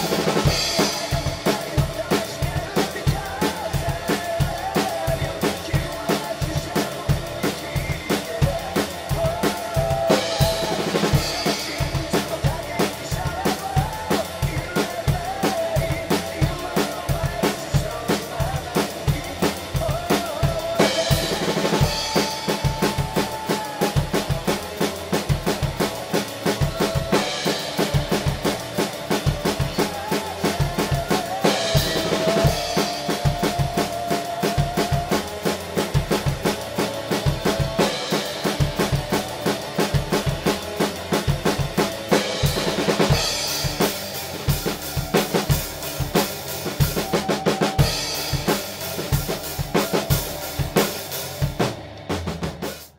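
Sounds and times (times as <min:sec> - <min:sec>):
recorded rock song: 0:00.0 - 0:52.9
rock drum kit playing: 0:00.0 - 0:52.9.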